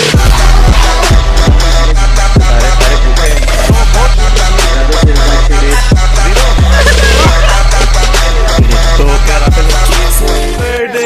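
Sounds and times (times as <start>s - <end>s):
music with heavy bass: 0.0s - 11.0s
booming kick drums dropping in pitch: 0.2s - 9.8s.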